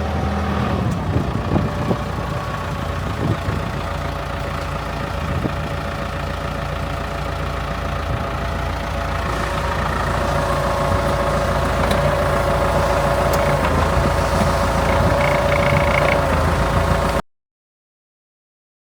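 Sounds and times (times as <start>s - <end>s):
tractor diesel engine running: 0.0s - 17.2s.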